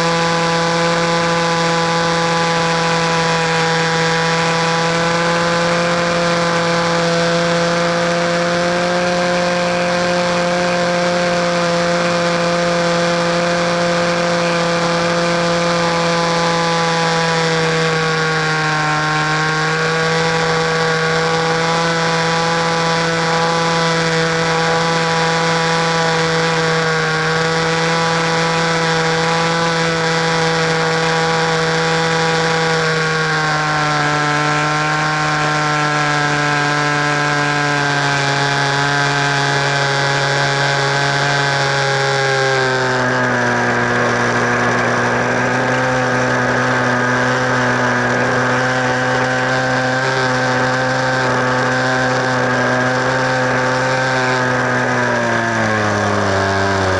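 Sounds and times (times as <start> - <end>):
model airplane engine buzzing: 0.0 - 56.9.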